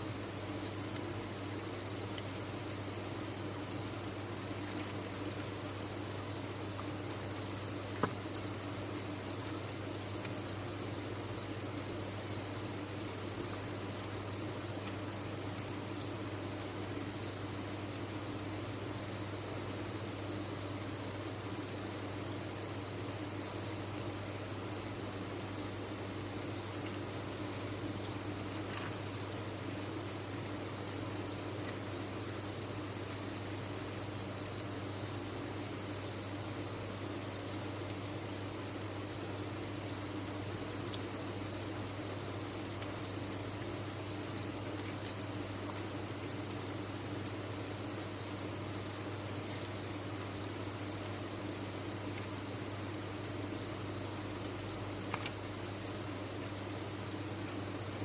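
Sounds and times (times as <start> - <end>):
crickets chirping in chorus: 0.0 - 58.0.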